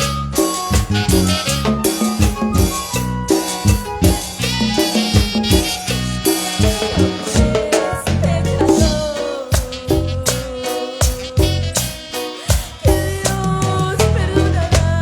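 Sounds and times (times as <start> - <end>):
latin dance band music: 0.0 - 15.0.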